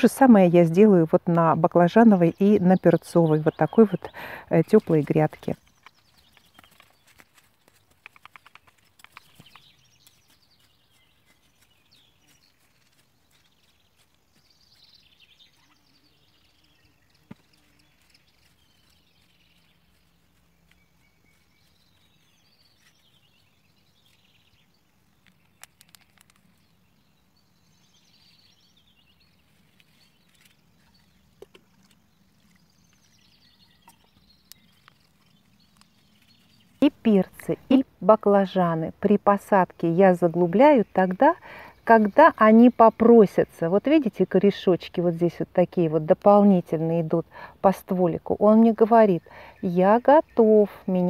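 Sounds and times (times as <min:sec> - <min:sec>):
faint birdsong: 0:00.0 - 0:51.0.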